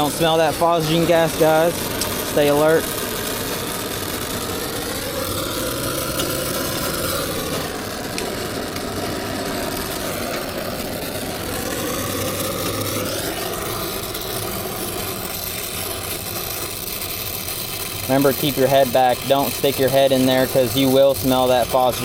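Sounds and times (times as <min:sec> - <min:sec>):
torch flame rushing: 0:00.0 - 0:22.0.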